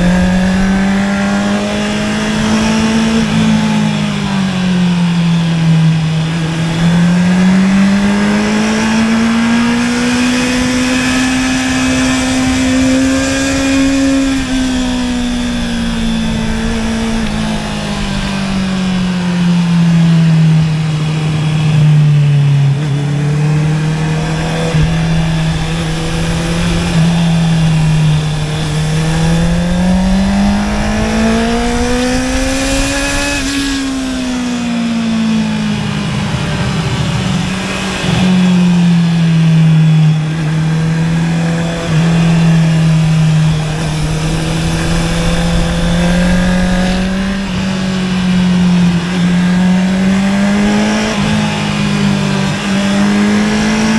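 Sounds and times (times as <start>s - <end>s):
motorcycle engine: 0.0s - 53.9s.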